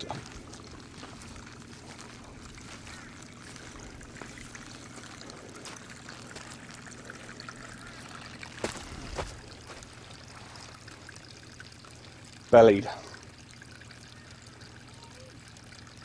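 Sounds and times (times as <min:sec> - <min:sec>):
muddy water trickling: 0:00.0 - 0:16.0
steady low hum: 0:00.0 - 0:16.0.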